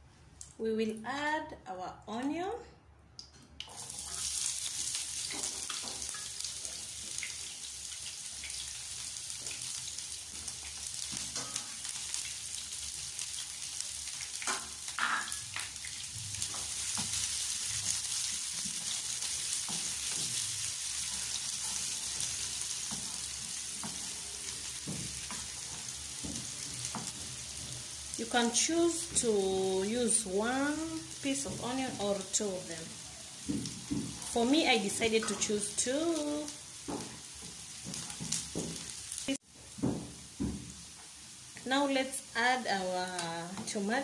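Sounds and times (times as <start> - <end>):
vegetables sizzling in a frying pan: 3.7 - 44.0.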